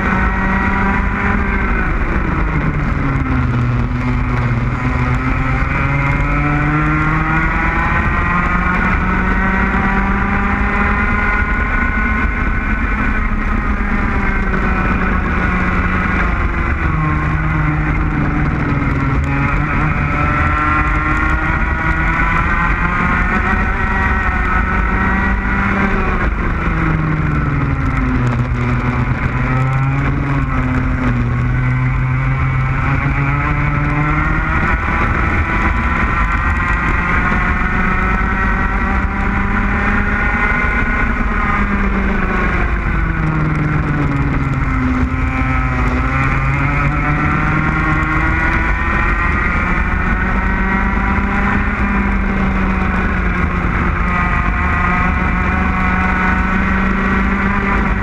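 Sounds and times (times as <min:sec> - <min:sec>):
kart engine running hard: 0:00.0 - 0:58.0.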